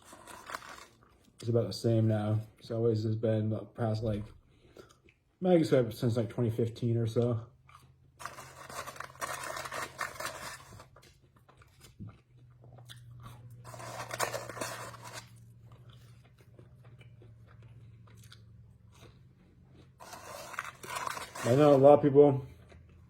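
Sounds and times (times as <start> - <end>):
person chewing and crunching food: 0.0 - 2.6, 4.5 - 5.4, 7.1 - 23.0.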